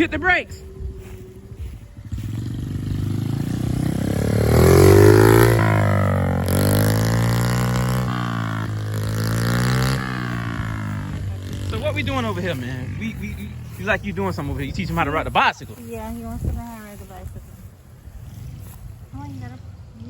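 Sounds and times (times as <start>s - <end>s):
mini bike engine revving: 0.6s - 15.4s, 16.0s - 20.0s.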